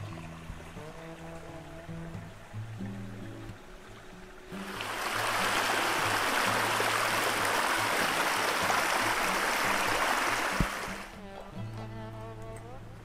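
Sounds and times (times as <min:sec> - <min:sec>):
water rushing over rocks: 0:00.0 - 0:11.2.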